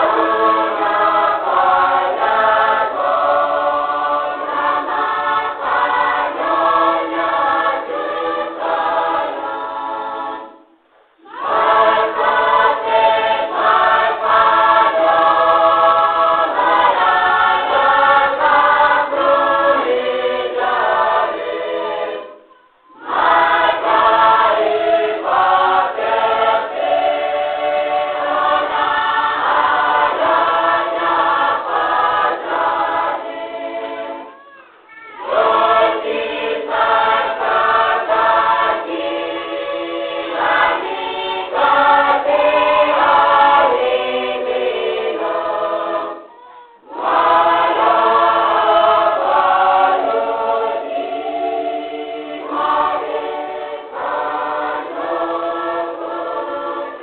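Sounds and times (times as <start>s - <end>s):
choir singing a hymn: 0.0s - 34.4s, 35.2s - 57.0s.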